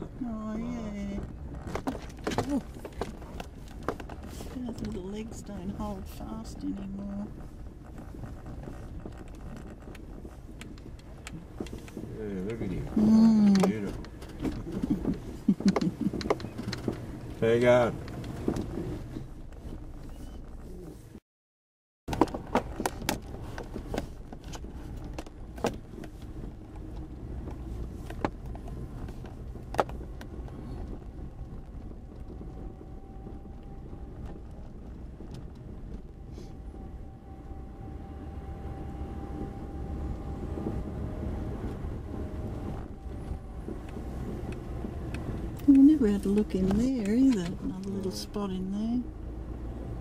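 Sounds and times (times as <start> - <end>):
engine and tyres rumbling: 0.0 - 21.2, 22.1 - 50.0.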